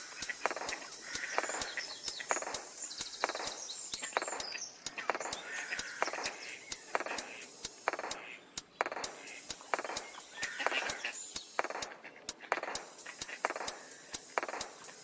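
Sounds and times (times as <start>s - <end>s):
ducklings peeping: 0.0s - 15.0s
sharp irregular clicks: 0.0s - 15.0s.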